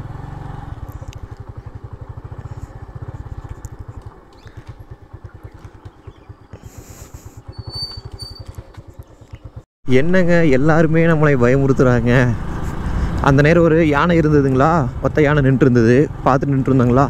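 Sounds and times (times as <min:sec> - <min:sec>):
motorcycle engine running: 0:00.0 - 0:09.7, 0:10.7 - 0:17.0.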